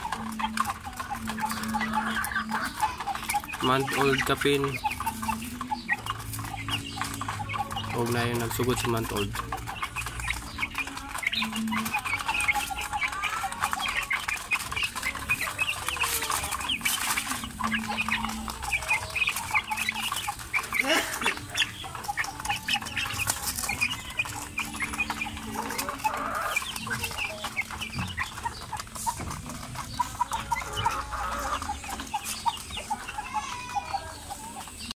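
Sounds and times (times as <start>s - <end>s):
chickens clucking and peeping: 0.0s - 34.9s.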